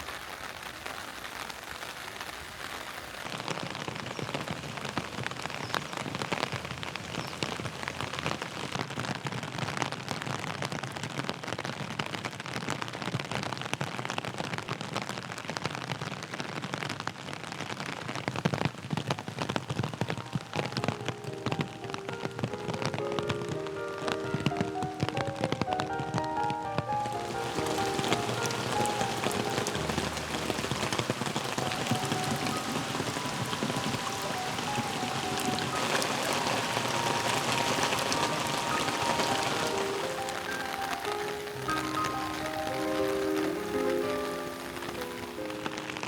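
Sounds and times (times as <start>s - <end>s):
steady rain falling: 0.0s - 46.0s
raindrops ticking: 3.1s - 46.0s.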